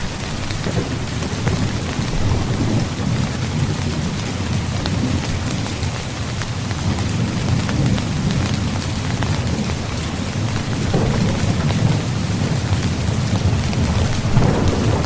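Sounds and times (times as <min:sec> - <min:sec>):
rain drumming on tent fabric: 0:00.0 - 0:15.0.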